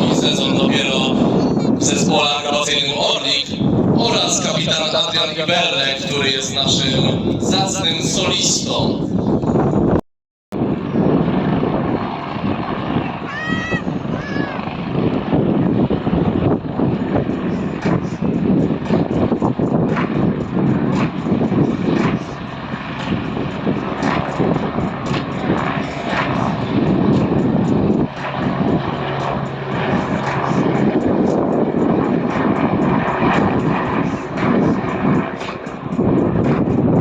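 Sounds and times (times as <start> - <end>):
propeller aircraft drone: 0.0 - 37.0.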